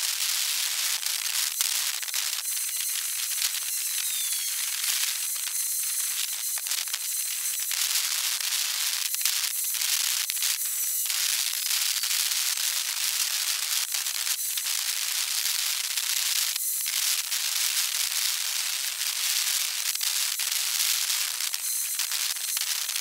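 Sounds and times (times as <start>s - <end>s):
crackling hiss with sharp clicks: 0.0s - 23.0s.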